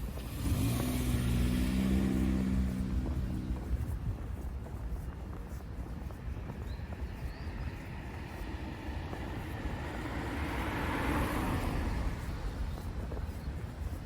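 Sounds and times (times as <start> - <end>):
road vehicle passing: 0.0 - 4.7, 6.9 - 14.0.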